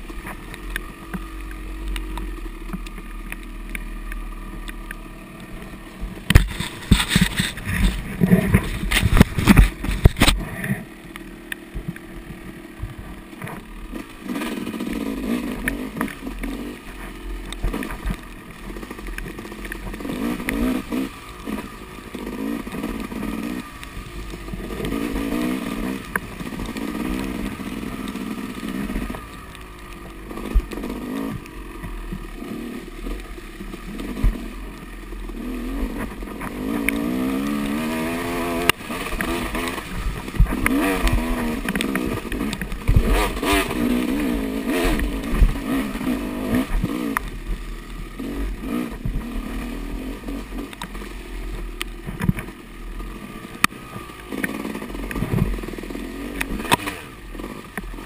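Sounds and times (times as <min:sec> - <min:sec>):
dirt bike engine revving: 0:03.5 - 0:58.0.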